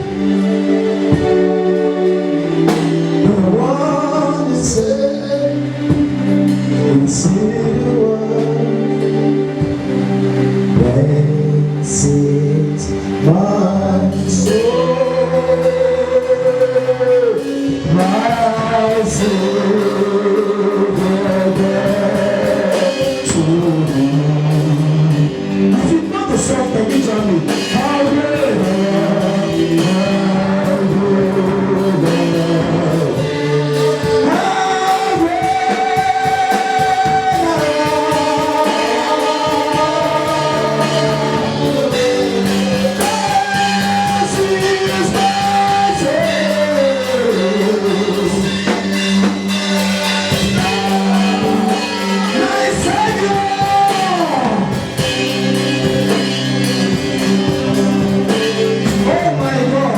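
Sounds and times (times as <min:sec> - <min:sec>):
band with guitar: 0:00.0 - 0:59.9
person singing: 0:00.0 - 0:59.9.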